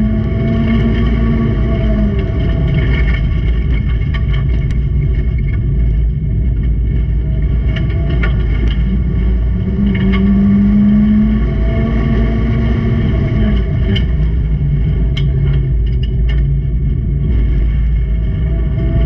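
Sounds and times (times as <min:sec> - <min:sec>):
racing car engine running hard: 0:00.0 - 0:19.0
sharp clicks and knocks: 0:00.2 - 0:10.6, 0:13.0 - 0:19.0.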